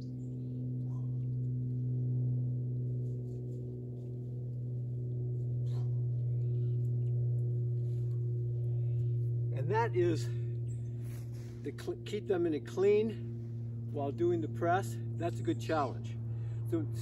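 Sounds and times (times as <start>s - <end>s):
low meditative drone music: 0.0s - 17.0s.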